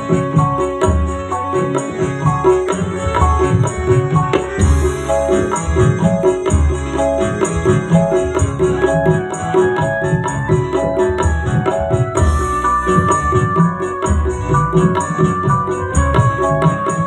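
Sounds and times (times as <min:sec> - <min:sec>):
drum beat: 0:00.0 - 0:17.0
jingling high percussion: 0:00.0 - 0:17.0
keyboard melody: 0:00.0 - 0:17.0.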